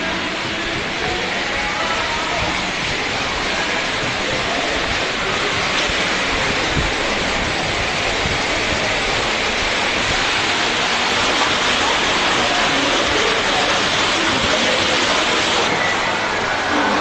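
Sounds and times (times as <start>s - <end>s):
fountain water jets rushing: 0.0s - 17.0s
shopping mall background noise: 0.0s - 17.0s.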